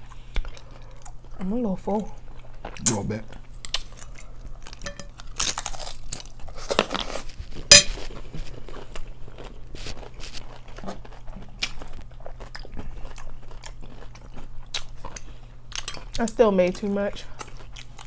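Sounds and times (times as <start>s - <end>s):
crunching and chewing chips: 0.0s - 18.0s.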